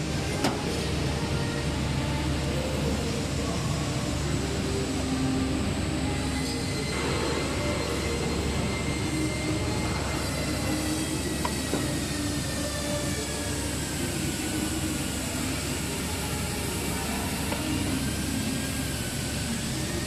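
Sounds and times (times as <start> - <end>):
faint steady whines: 0.0 - 20.0
machinery droning: 0.0 - 20.0.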